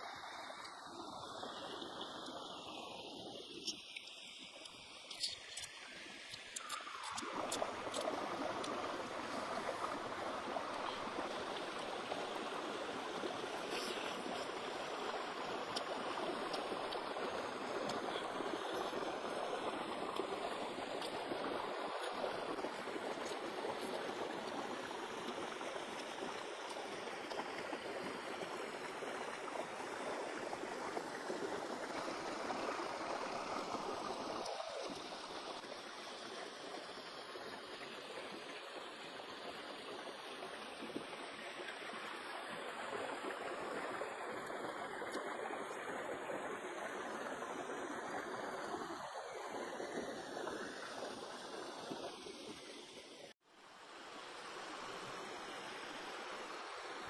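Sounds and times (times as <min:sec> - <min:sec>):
running water in stream: 0:00.0 - 0:57.0.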